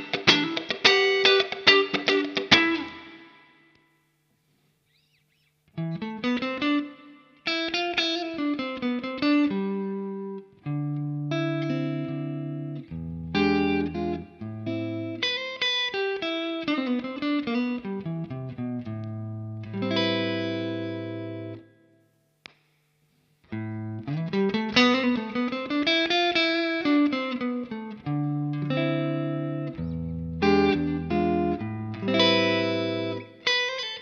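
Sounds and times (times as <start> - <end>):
electric guitar playing: 0.0 - 3.9, 4.9 - 22.0, 23.5 - 34.0.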